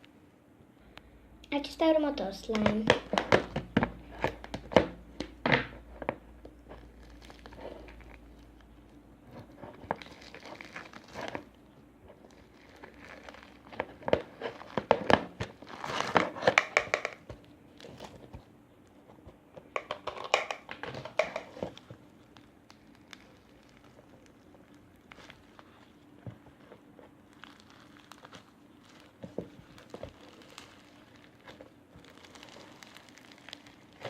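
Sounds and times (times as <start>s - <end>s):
slime crackling and popping: 2.2s - 19.0s, 19.7s - 34.0s.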